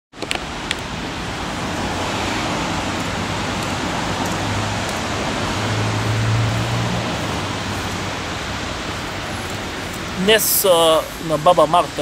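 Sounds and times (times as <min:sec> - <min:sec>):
steady rushing outdoor noise: 0:00.1 - 0:12.0.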